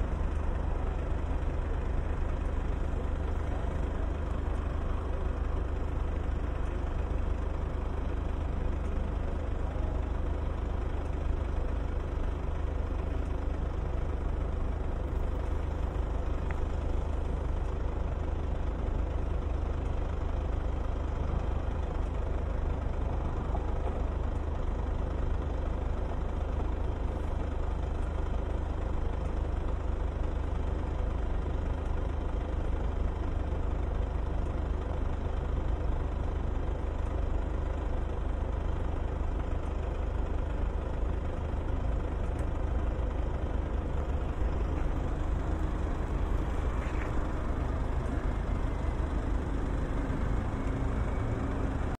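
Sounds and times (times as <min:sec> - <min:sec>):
idling traffic engine rumble: 0:00.0 - 0:52.0.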